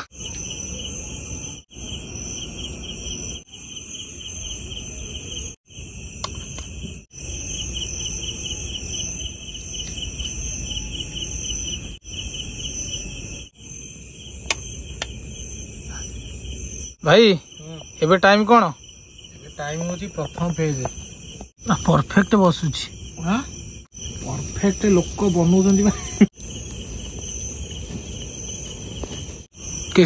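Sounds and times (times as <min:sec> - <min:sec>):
crickets trilling: 0:00.0 - 0:30.0
high insect tone: 0:00.0 - 0:30.0.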